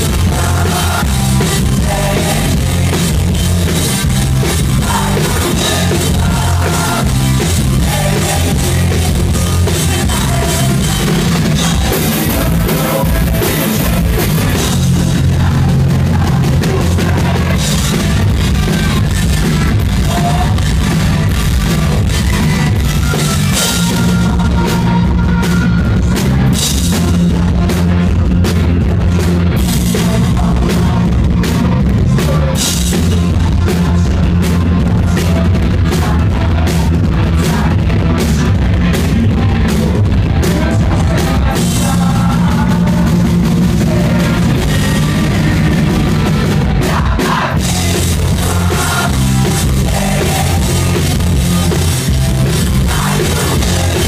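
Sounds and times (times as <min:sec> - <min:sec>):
electric guitars: 0:00.0 - 0:54.0
pounding drum kit: 0:00.0 - 0:54.0.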